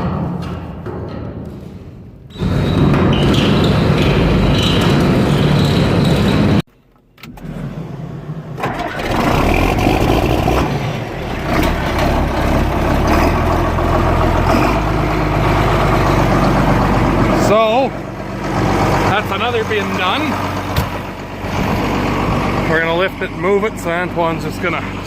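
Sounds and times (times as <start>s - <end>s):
loader engine running: 2.3s - 25.0s.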